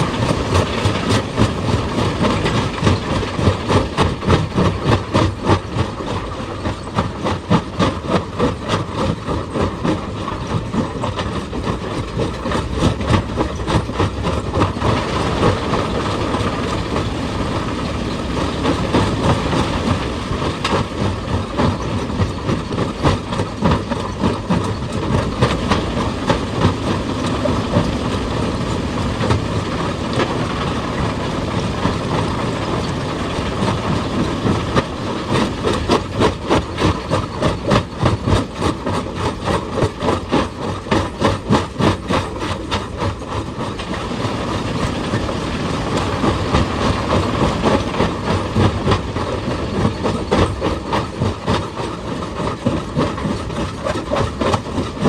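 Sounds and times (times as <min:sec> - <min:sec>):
heavy machinery running: 0:00.0 - 0:55.0.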